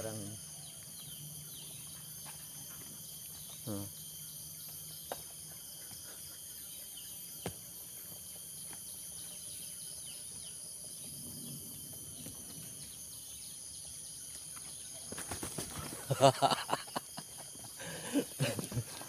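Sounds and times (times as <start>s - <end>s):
faint bird chirps: 0.0s - 16.8s
high-pitched insect chorus: 0.0s - 19.0s.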